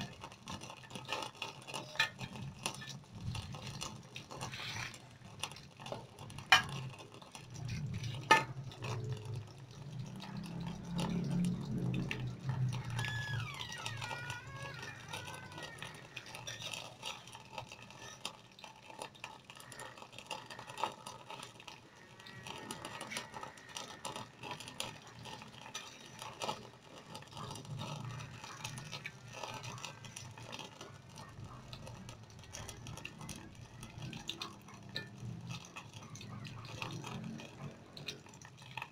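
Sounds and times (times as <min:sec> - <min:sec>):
food frying in hot oil: 0:00.0 - 0:38.9.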